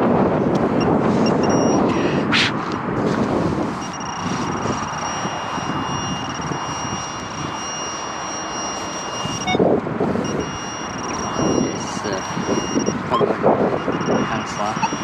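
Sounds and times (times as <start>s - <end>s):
wind buffeting microphone: 0.0s - 15.0s
metal detector high tone: 0.4s - 1.9s, 3.8s - 15.0s.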